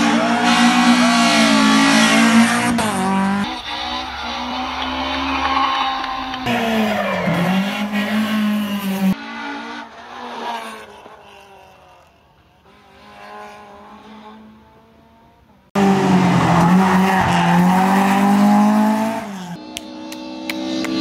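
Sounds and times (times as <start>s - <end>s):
rally car engine at full revs: 0.0s - 21.0s.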